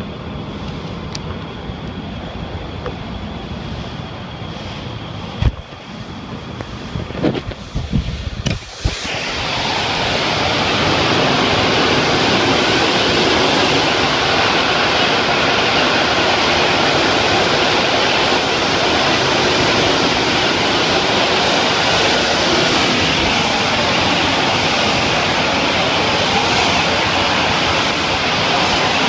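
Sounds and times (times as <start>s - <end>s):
pressure washer spraying wall: 3.6s - 29.0s.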